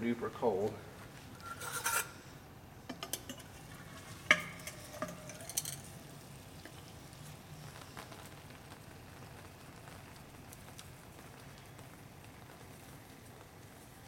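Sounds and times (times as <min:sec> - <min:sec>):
liquid nitrogen sizzling hiss: 0:00.0 - 0:14.0.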